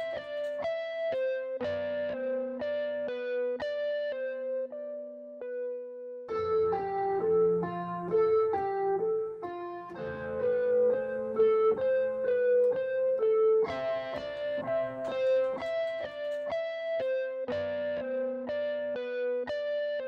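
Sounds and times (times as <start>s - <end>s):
slow keyboard melody: 0.0s - 20.0s.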